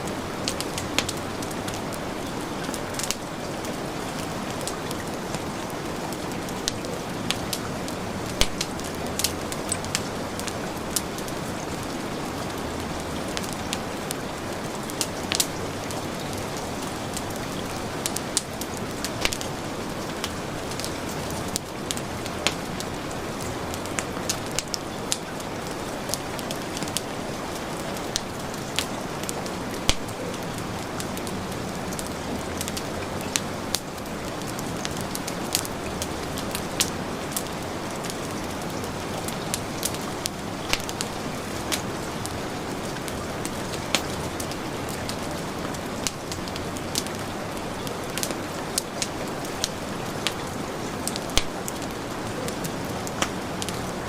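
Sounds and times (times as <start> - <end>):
heavy rain hissing: 0.0 - 54.0
wood fire crackling and popping: 0.1 - 54.0.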